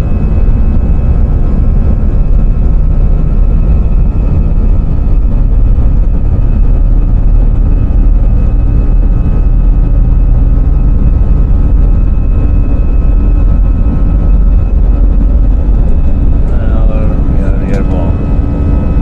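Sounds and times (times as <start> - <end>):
high engine whine: 0.0 - 19.0
jet engines rumbling: 0.0 - 19.0.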